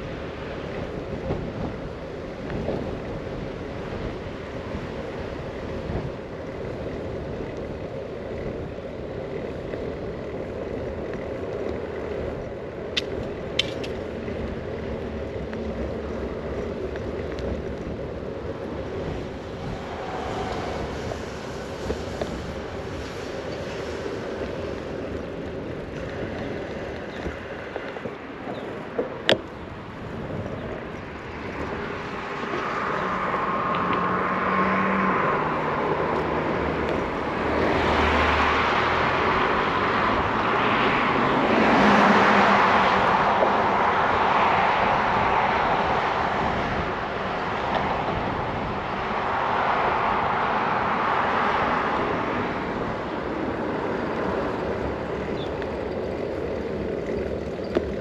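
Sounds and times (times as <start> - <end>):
passing car traffic: 0.0 - 58.0
road and wind noise: 0.0 - 58.0.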